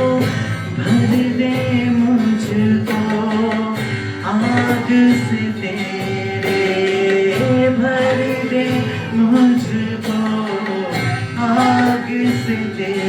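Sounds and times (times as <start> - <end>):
guitar: 0.0 - 13.0
steady drum beat: 0.0 - 13.0
worship band music: 0.0 - 13.0.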